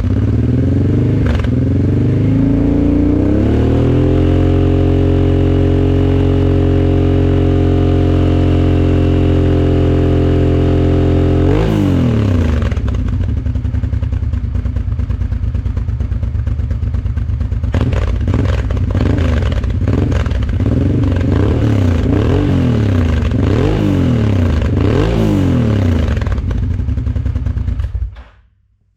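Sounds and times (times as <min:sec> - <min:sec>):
motorcycle engine running: 0:00.0 - 0:28.2.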